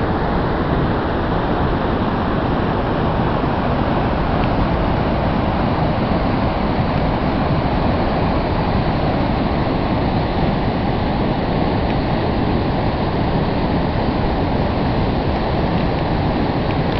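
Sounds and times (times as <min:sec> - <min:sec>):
whitewater rapids rushing: 0:00.0 - 0:16.9.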